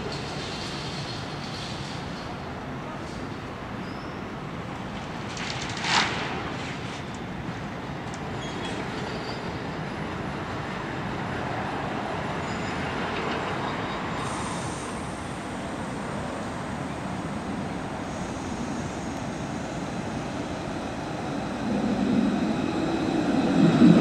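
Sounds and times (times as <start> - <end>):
tram rolling rumble: 0.0 - 24.0.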